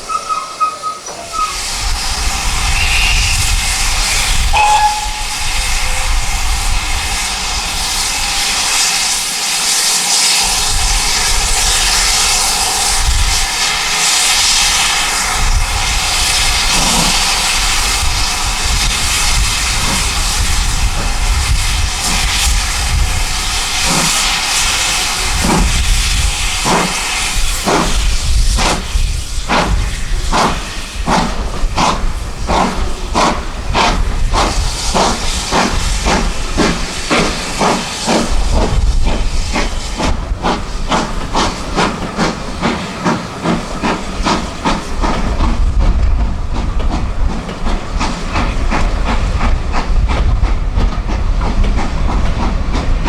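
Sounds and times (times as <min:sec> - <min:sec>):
steam hiss: 0:00.0 - 0:53.0
steam locomotive chuffing: 0:00.0 - 0:53.0.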